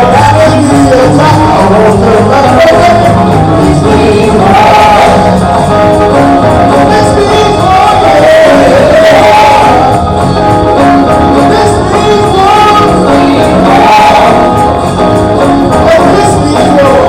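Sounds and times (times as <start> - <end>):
band playing: 0.0 - 17.0
choir singing gospel: 0.0 - 17.0
tambourine: 0.0 - 17.0.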